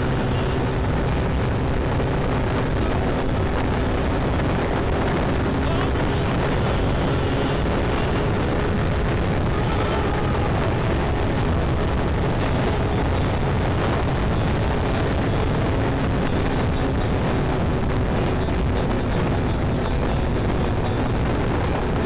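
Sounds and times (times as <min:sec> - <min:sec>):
road noise: 0:00.0 - 0:22.0
scooter engine droning: 0:00.0 - 0:22.0
wind buffeting microphone: 0:00.0 - 0:22.0.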